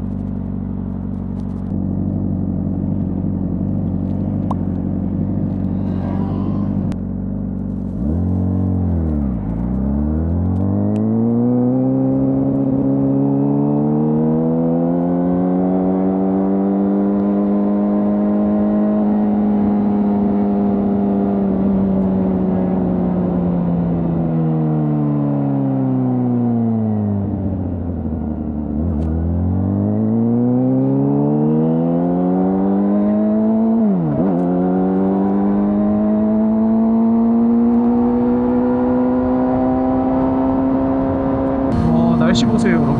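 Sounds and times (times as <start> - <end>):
motorcycle engine revving: 0.0 - 24.0, 28.7 - 42.9.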